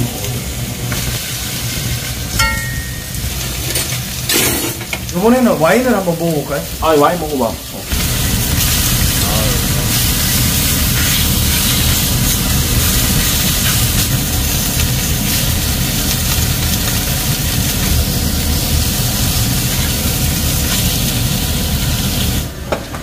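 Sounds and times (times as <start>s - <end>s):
meat sizzling in a frying pan: 0.1s - 22.6s.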